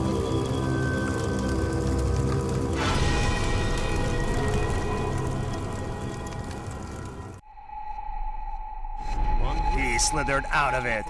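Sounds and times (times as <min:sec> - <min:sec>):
background music sustained tones: 0:00.0 - 0:11.0.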